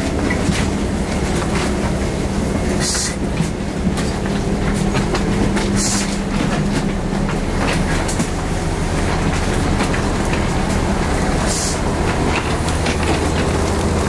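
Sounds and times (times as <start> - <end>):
vehicle running drone: 0.0 - 14.0.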